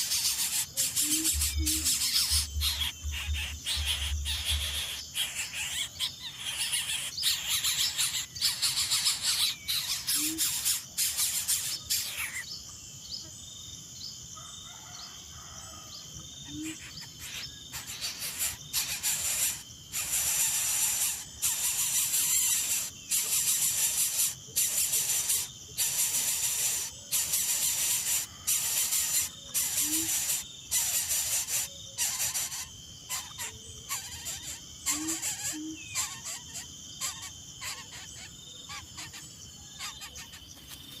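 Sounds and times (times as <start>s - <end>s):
nestlings rasping begging calls: 0.0s - 12.5s, 16.6s - 40.8s
high insect drone: 0.0s - 41.0s.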